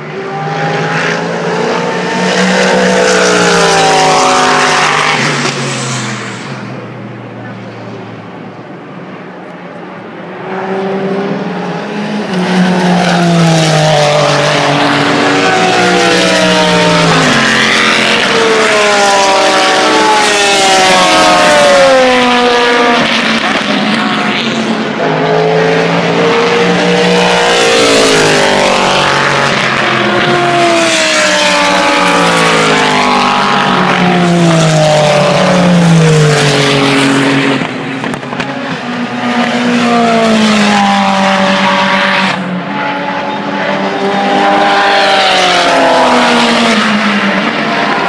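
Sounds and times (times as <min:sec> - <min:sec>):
race cars passing: 0:00.0 - 0:48.0.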